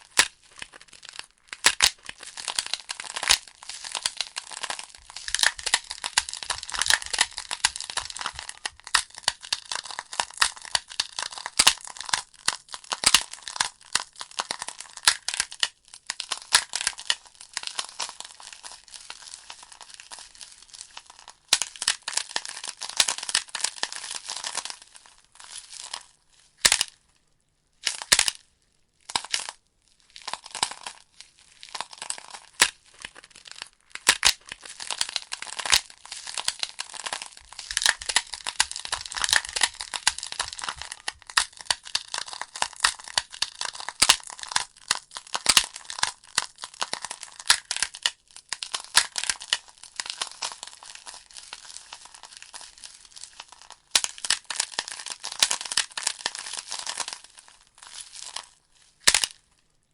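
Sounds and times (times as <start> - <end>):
logs crackling and popping: 0.0 - 28.4, 29.0 - 59.5.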